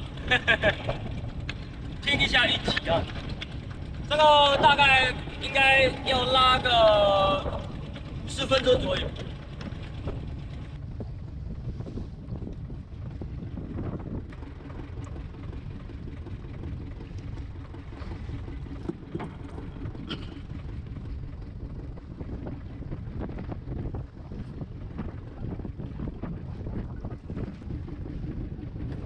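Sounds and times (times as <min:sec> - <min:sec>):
boat engine running: 0:00.0 - 0:29.0
wind buffeting microphone: 0:00.0 - 0:29.0.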